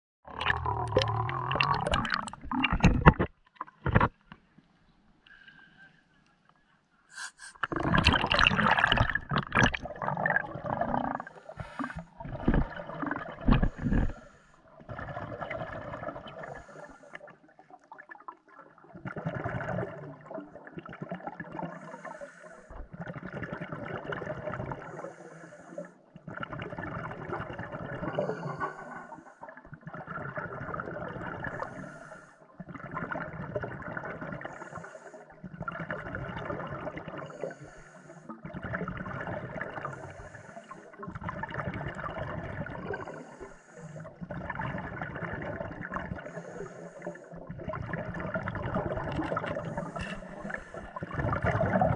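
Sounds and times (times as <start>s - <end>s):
exhaled bubbles gurgling underwater: 0.2s - 4.2s, 7.5s - 51.9s.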